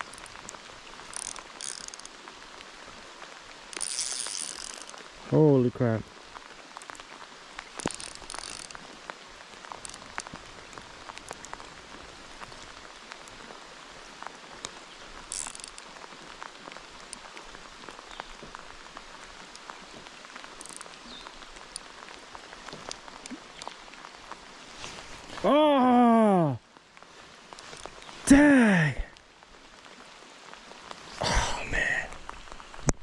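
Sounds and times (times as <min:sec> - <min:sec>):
raindrops ticking: 0:00.0 - 0:33.0
steady rain hiss: 0:00.0 - 0:33.0.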